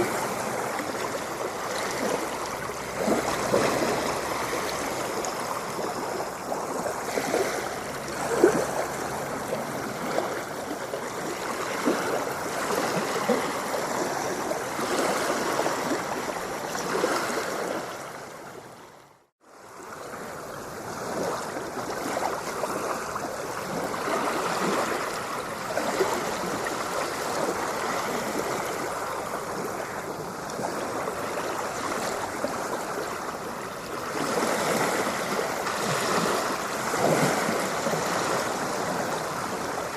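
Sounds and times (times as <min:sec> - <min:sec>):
ocean water splashing: 0:00.0 - 0:39.9.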